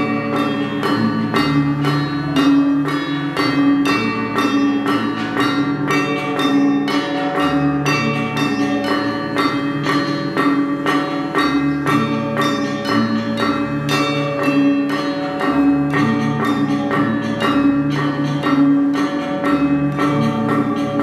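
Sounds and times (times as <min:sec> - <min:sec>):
low gong tones: 0:00.0 - 0:21.0
struck metallophones ringing: 0:00.0 - 0:21.0.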